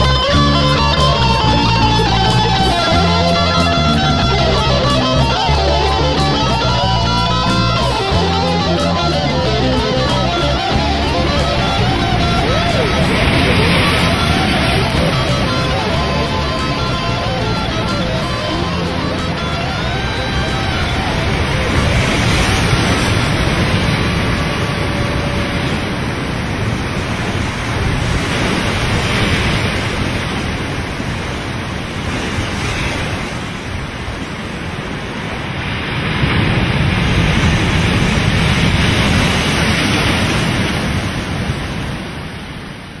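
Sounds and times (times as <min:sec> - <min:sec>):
ocean wave breaking: 0:00.0 - 0:43.0
water rushing over camera: 0:00.0 - 0:43.0.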